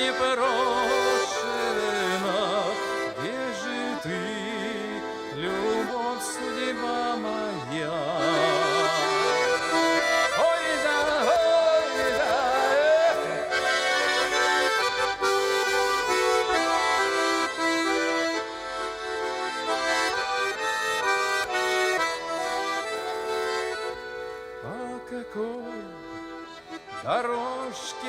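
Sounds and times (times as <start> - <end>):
accordion melody over chords: 0.0 - 28.0.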